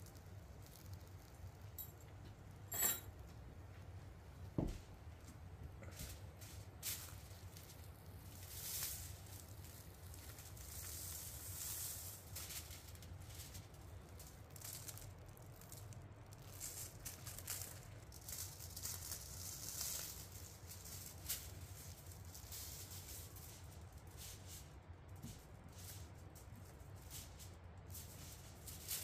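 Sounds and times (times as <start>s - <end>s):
spice pattering onto foil: 0.0s - 2.9s, 5.8s - 29.0s.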